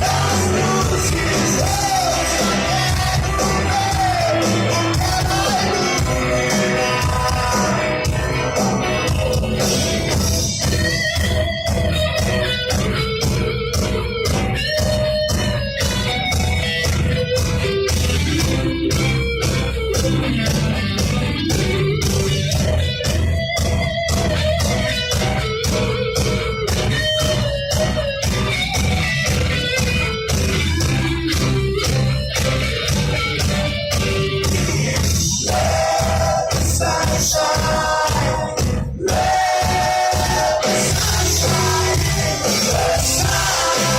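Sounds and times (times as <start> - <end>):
electric guitar: 0.0 - 43.9
live rock band: 0.0 - 43.9
steady drum beat: 0.0 - 43.9.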